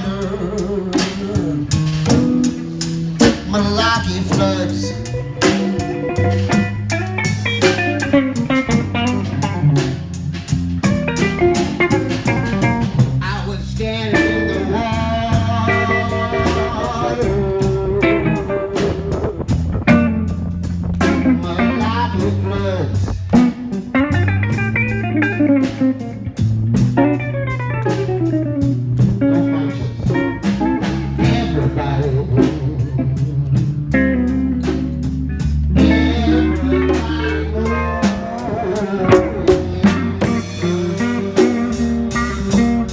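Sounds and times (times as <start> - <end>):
bass line: 0.0 - 42.9
drums keeping a beat: 0.0 - 42.9
electric guitar lines: 0.0 - 42.9.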